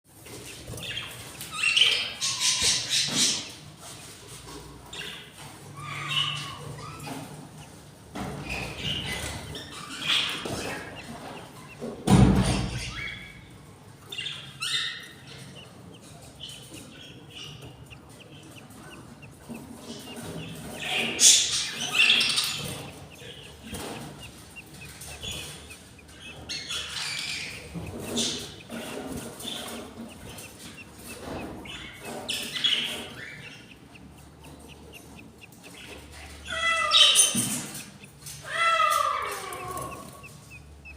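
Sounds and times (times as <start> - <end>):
budgerigars chirping and squawking: 0.1 - 40.9.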